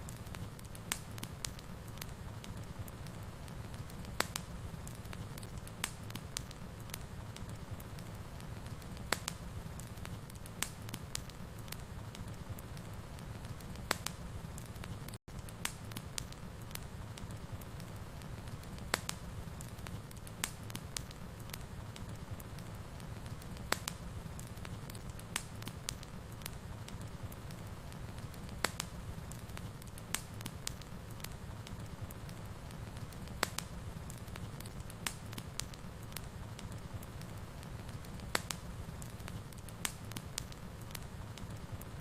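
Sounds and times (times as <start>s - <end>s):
fire crackling and popping: 0.0s - 42.0s
fire rumbling: 0.0s - 42.0s.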